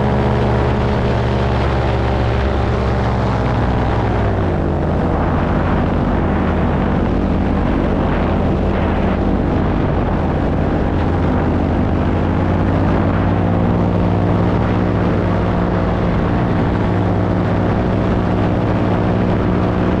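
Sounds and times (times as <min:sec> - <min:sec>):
paramotor engine and propeller: 0:00.0 - 0:20.0.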